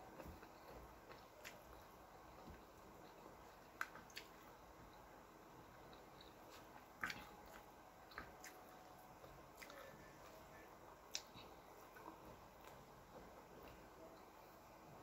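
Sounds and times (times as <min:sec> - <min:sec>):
person chewing and smacking: 0:00.0 - 0:05.0, 0:05.6 - 0:10.4, 0:11.0 - 0:13.9.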